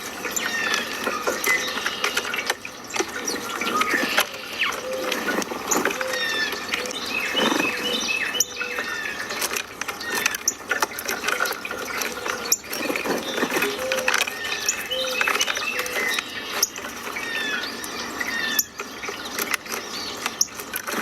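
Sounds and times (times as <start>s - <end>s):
outdoor ambience hiss: 0.0s - 21.0s
small birds chirping and whistling: 0.0s - 21.0s.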